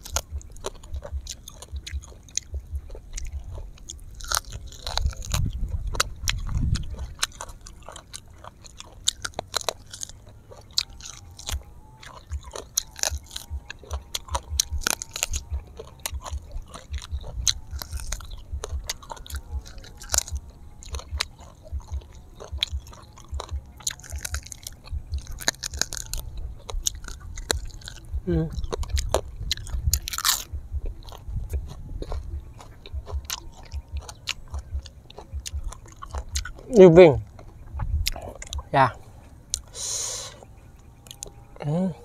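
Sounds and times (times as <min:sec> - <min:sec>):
close chewing and crunching: 0:00.0 - 0:42.0
mouth clicks: 0:00.0 - 0:42.0.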